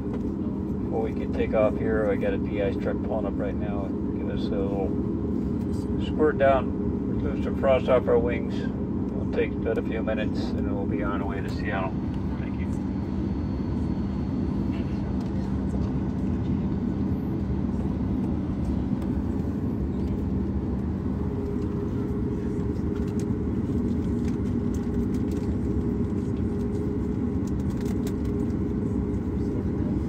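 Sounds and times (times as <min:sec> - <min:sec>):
aircraft cabin drone: 0:00.0 - 0:30.0.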